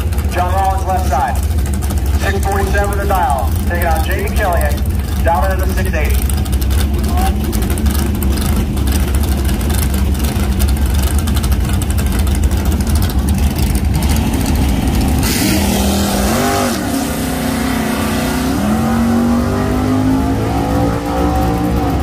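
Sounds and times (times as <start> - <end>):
engine revving: 0.0 - 22.0
loud car engines rumbling: 0.0 - 22.0.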